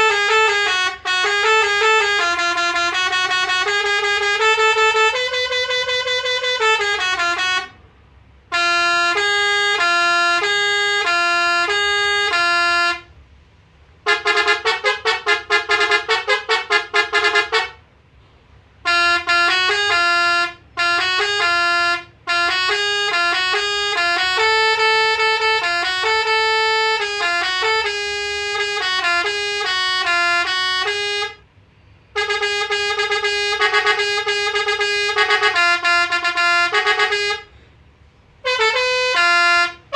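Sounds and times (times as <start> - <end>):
musical air horn playing tunes: 0.0 - 7.9, 8.5 - 13.1, 14.0 - 37.8, 38.4 - 39.9.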